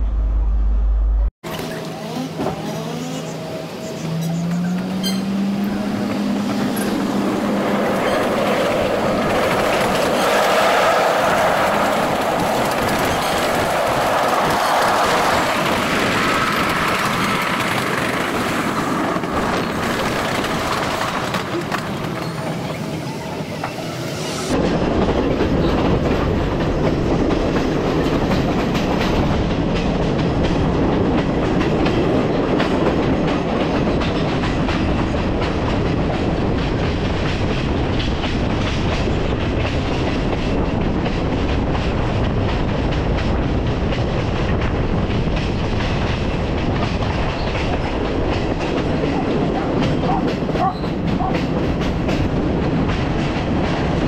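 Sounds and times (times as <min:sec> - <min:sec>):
train rumble: 0:00.0 - 0:54.0
wheels clacking over rail joints: 0:03.9 - 0:23.0, 0:25.2 - 0:54.0.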